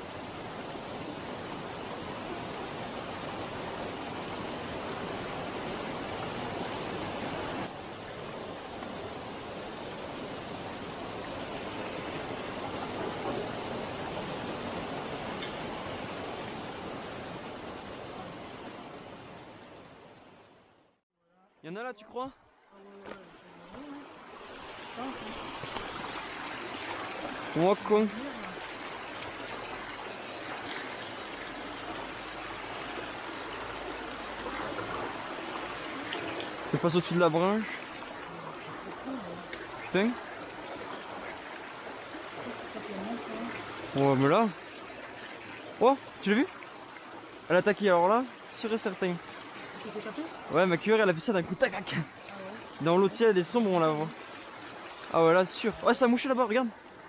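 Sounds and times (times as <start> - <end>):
stream water rushing over riffles: 0.0 - 20.6, 22.0 - 57.0.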